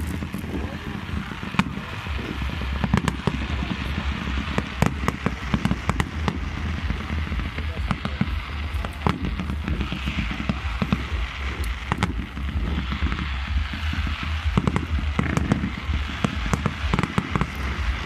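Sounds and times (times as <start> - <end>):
fireworks bangs and pops: 0.0 - 18.0
fireworks crackling: 0.0 - 18.0
low rumble: 0.0 - 18.0.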